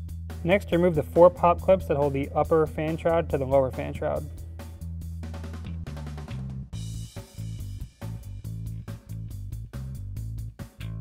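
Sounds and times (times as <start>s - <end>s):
bass line with drum beats: 0.0s - 11.0s.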